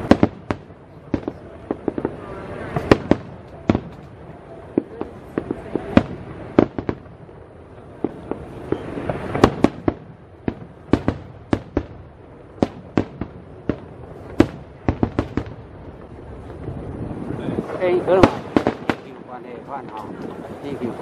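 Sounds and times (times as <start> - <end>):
crackling hiss: 0.0 - 21.0
fireworks bangs and pops: 0.0 - 21.0.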